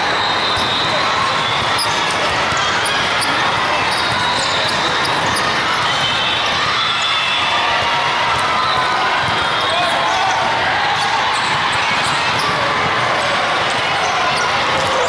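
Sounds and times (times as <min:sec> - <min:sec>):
sneaker squeaks: 0:00.0 - 0:07.5, 0:08.3 - 0:15.0
many voices at once: 0:00.0 - 0:15.0
volleyball hits: 0:00.0 - 0:15.0.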